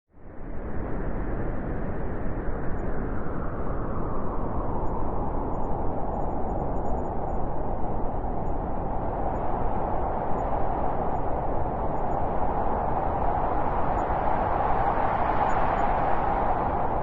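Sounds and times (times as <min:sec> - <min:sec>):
howling wind: 0:00.1 - 0:17.0.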